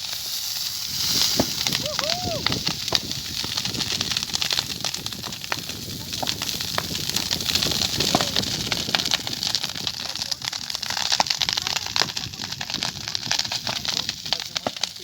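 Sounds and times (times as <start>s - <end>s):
bonfire crackling: 0.0s - 15.0s
fire hissing: 0.0s - 15.0s.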